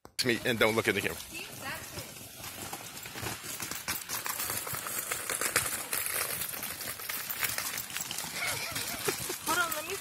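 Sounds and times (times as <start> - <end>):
suitcase wheels rattling: 0.4 - 10.0
footsteps on dirt path: 0.5 - 10.0.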